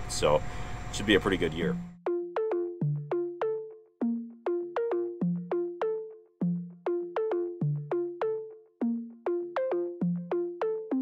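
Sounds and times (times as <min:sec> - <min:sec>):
instrumental background music: 0:01.4 - 0:11.0.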